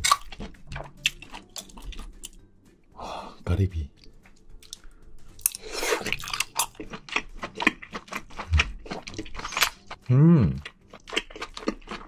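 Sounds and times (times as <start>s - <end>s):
close chewing with mouth clicks: 0.0s - 2.4s, 4.0s - 12.0s.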